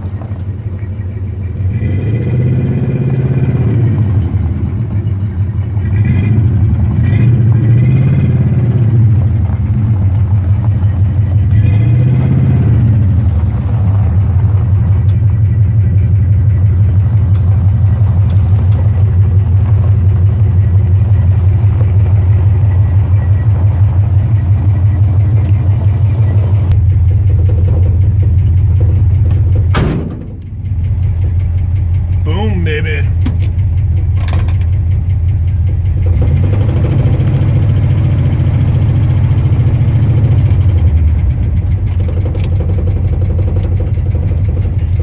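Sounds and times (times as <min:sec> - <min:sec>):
truck engine running and revving: 0:00.0 - 0:45.0.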